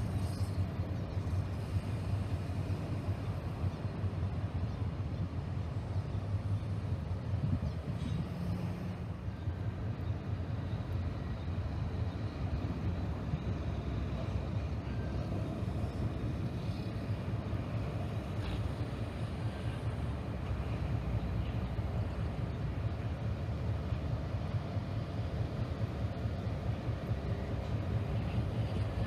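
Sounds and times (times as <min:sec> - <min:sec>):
diesel locomotive low rumble: 0:00.0 - 0:29.0.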